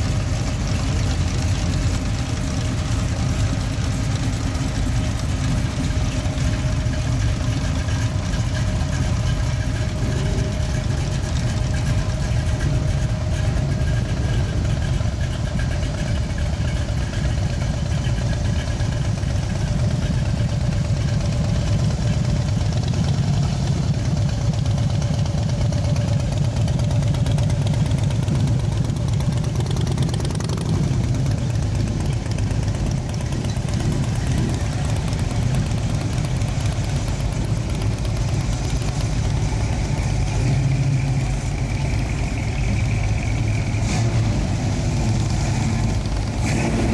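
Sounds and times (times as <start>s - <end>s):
car engines running at low revs: 0.0s - 46.9s.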